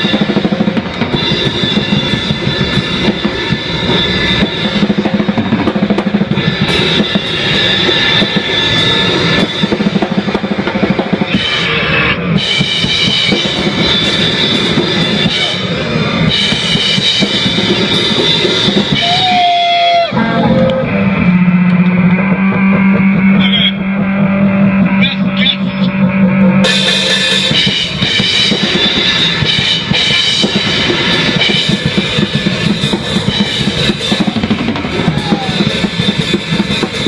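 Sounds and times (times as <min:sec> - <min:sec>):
drum kit playing: 0:00.0 - 0:37.0
harsh noise with held tones: 0:00.0 - 0:37.0
steady low drone: 0:00.0 - 0:37.0.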